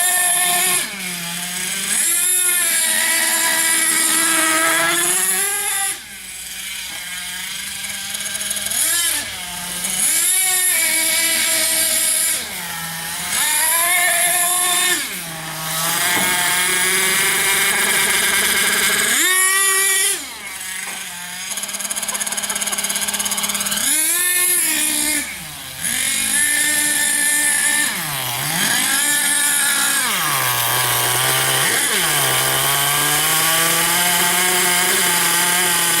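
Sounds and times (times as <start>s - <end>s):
small engine revving: 0.0s - 36.0s.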